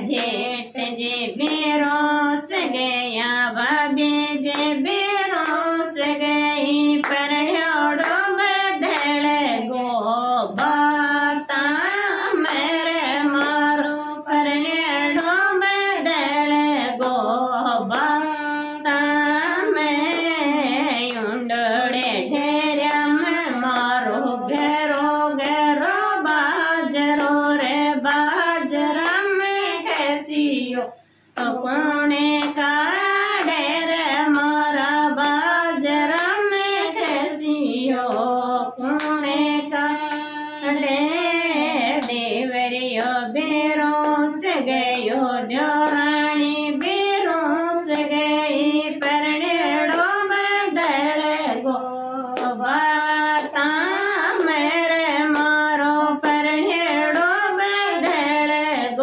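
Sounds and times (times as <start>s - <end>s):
woman singing folk song: 0.0s - 59.0s.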